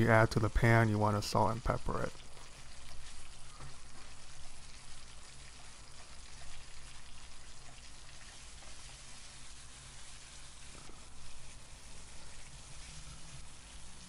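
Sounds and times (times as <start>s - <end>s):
seafood sizzling in hot oil: 1.7s - 14.0s.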